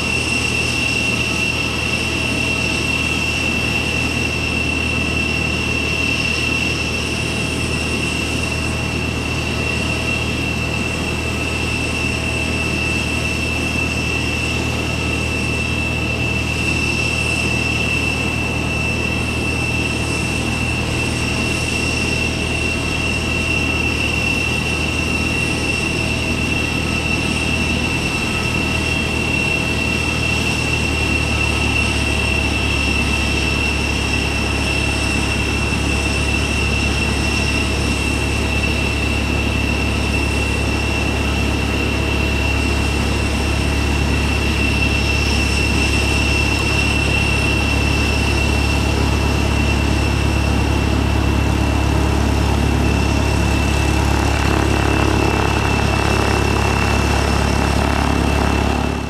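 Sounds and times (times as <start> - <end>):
propeller plane engine droning: 0.0 - 59.0
thin high whine: 0.0 - 59.0.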